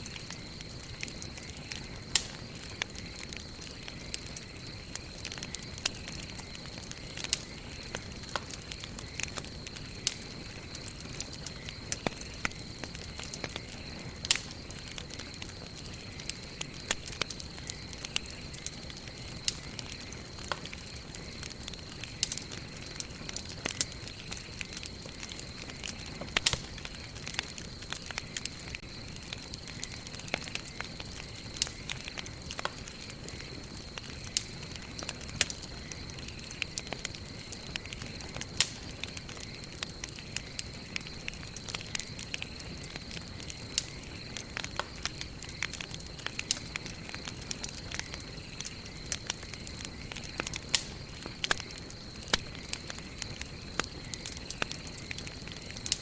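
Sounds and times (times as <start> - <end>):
campfire crackling and popping: 0.0 - 56.0
rustle of flames: 0.0 - 56.0.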